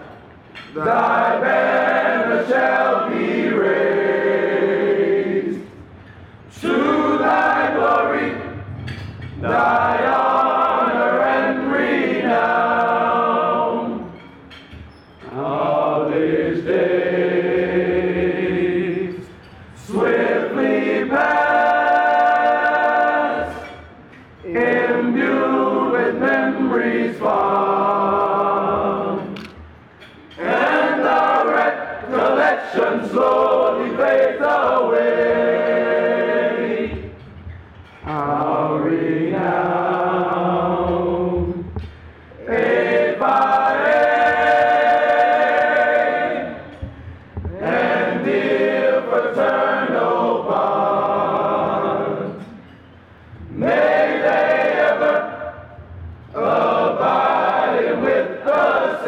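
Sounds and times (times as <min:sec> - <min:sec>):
men's choir singing in harmony: 0:00.0 - 0:59.0.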